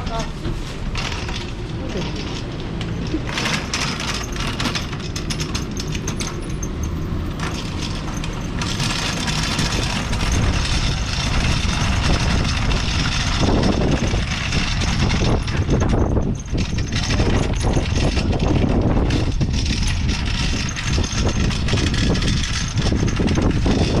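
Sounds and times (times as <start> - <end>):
clicks and rustles: 0.0 - 24.0.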